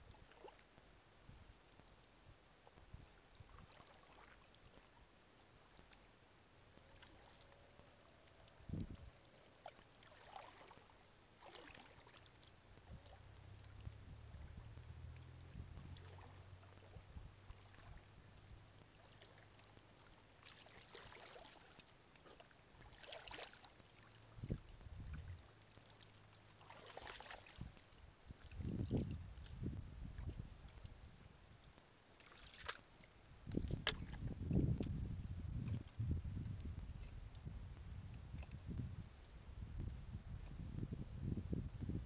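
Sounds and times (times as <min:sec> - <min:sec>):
shallow water sloshing: 0:00.0 - 0:00.8, 0:02.6 - 0:37.5
low steady hum: 0:00.0 - 0:42.0.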